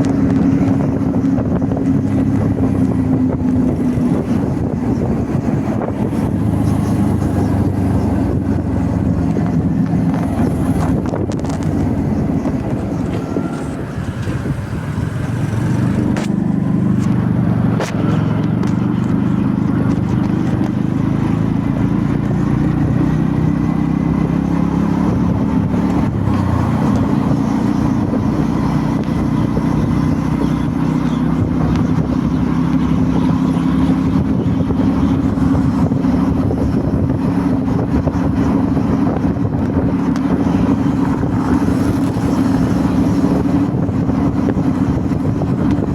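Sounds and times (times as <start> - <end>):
motorbike engine running: 0.0 - 45.9.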